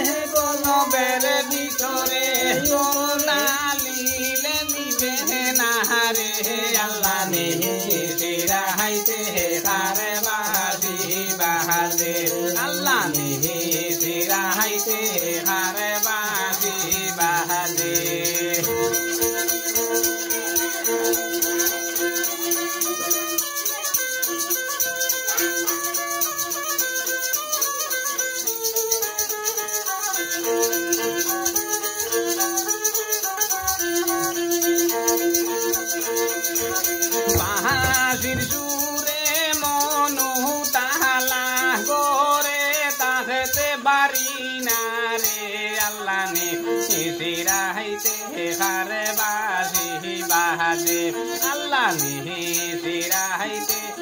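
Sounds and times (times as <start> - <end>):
rattle percussion beat: 0.0 - 54.0
violin melody: 0.0 - 54.0.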